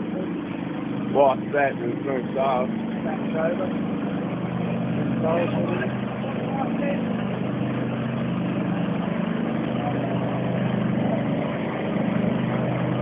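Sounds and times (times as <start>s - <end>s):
fire truck engine running: 0.0s - 13.0s.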